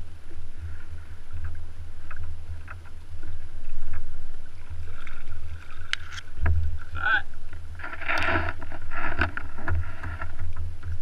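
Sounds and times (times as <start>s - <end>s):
gusting wind and water rumble: 0.0s - 11.0s.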